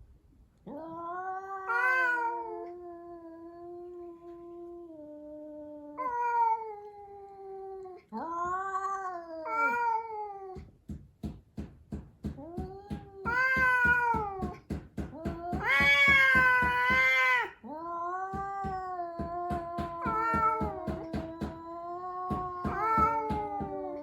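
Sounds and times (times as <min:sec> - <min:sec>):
cat caterwauling: 0:00.6 - 0:10.7, 0:12.4 - 0:24.0.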